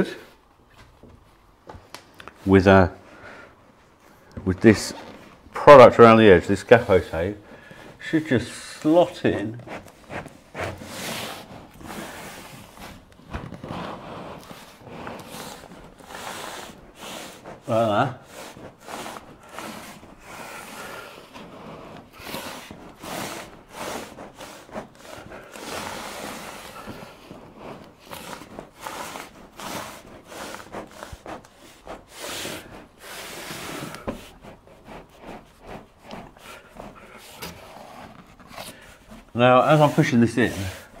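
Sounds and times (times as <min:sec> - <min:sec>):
foam and foil rubbing on wood: 0:02.4 - 0:41.0
sharp scrapes and knocks: 0:04.0 - 0:41.0.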